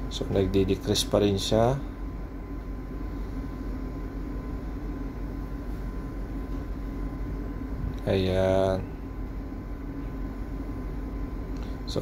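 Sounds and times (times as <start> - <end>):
low machinery drone: 0.0 - 12.0
thin high hum: 0.0 - 12.0.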